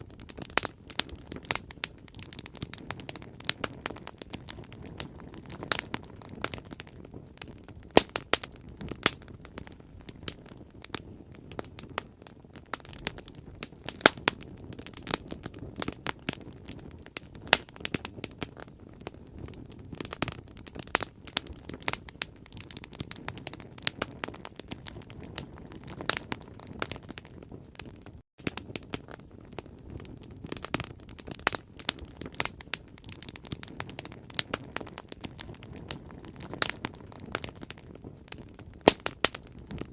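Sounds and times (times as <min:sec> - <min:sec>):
bonfire crackling: 0:00.0 - 0:39.9
burning wood popping: 0:00.0 - 0:39.9
low rush of flame: 0:00.0 - 0:39.9.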